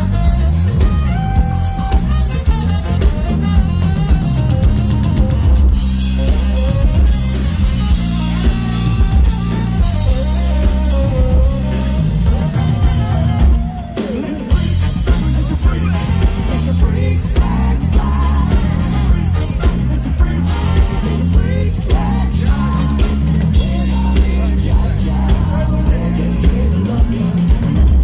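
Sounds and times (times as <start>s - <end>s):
drum kit beat: 0.0s - 28.0s
rock band playing live: 0.0s - 28.0s.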